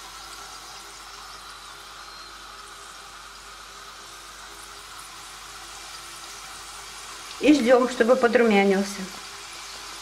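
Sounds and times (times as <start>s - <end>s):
dough deep-frying in oil: 0.0s - 10.0s.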